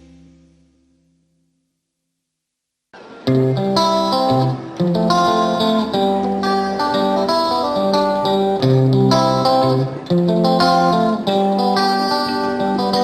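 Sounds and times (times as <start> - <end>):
guitar melody with strummed chords: 0.0 - 1.4, 3.0 - 13.0.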